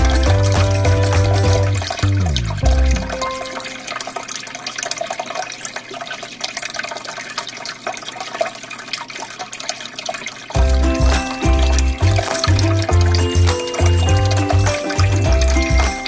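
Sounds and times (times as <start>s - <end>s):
aquarium water trickling: 0.0s - 16.0s.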